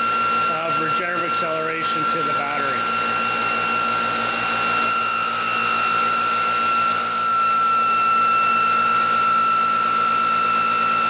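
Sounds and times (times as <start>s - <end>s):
motor-generator high-pitched whine: 0.0s - 11.0s.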